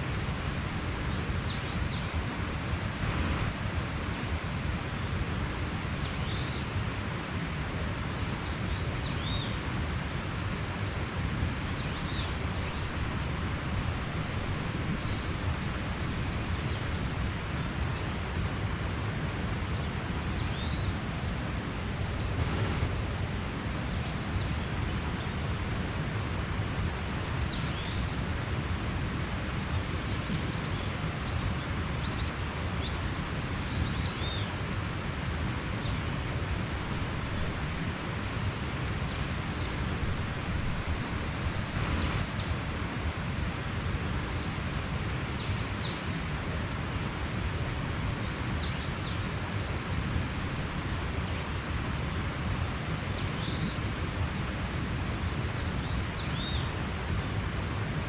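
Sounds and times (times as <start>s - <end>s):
mountain stream running: 0.0s - 58.0s.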